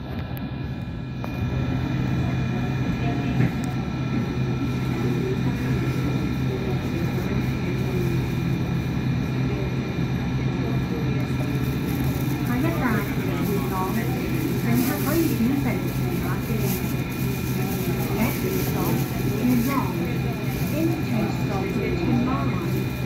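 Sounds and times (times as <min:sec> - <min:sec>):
light rail car hum and rumble: 0:00.0 - 0:23.0.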